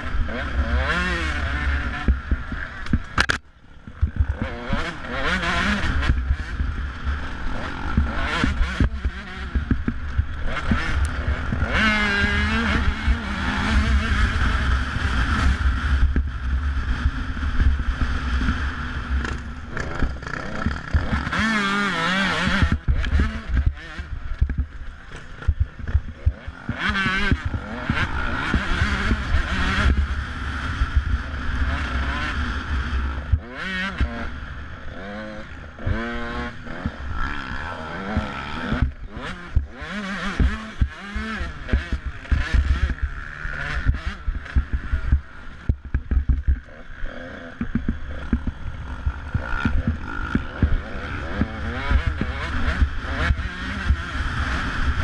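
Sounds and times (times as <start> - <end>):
dirt bike engine revving: 0.0 - 3.4, 4.0 - 55.0.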